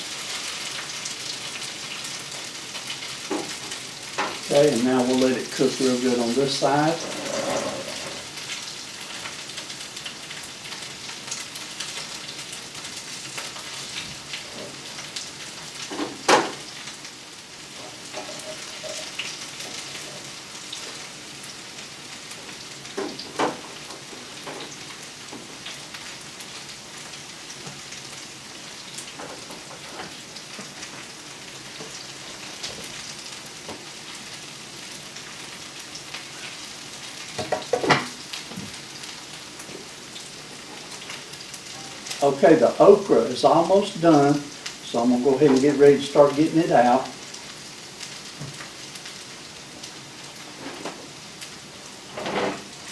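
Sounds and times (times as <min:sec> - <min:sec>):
okra sizzling in hot oil: 0:00.0 - 0:52.9.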